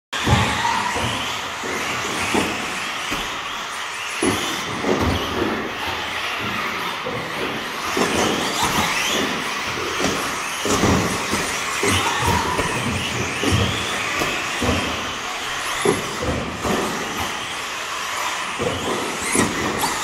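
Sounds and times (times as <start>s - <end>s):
electric motors whining: 0.2s - 20.0s.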